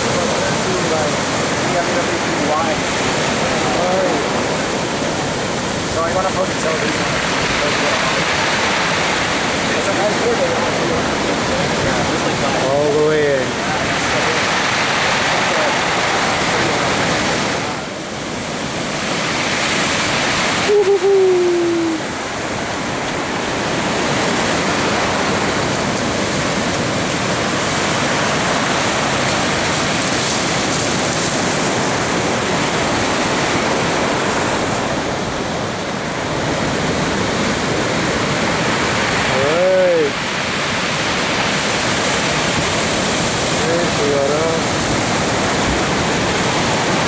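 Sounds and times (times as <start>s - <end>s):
heavy ocean surf roaring: 0.0s - 47.0s.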